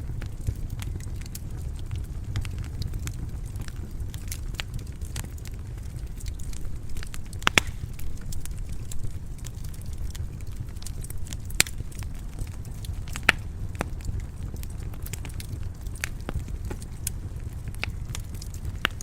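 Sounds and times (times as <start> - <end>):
low rumble of flames: 0.0 - 19.0
wood fire crackling: 0.0 - 19.0
sharp pops of burning wood: 0.1 - 19.0.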